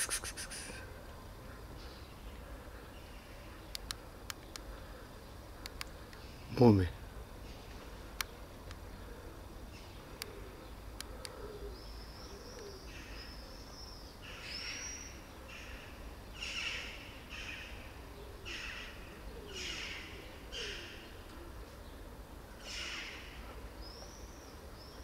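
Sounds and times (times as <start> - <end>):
small birds calling: 0.0 - 25.0.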